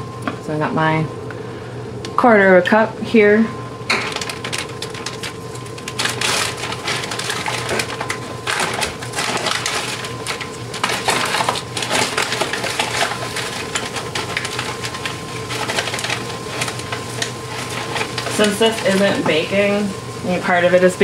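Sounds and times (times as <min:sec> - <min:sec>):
vegetables sizzling in butter: 0:03.9 - 0:21.0.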